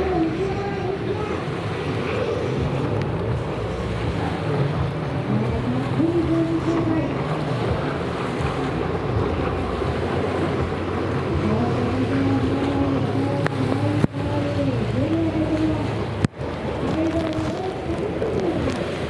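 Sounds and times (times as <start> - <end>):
jet ski engines revving: 0.0 - 19.0
rush of spray: 0.0 - 19.0
wind on microphone: 0.0 - 19.0.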